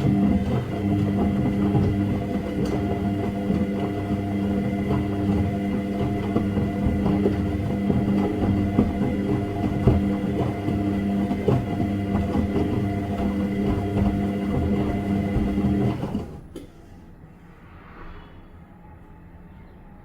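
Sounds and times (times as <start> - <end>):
washing machine motor hum: 0.0 - 16.6.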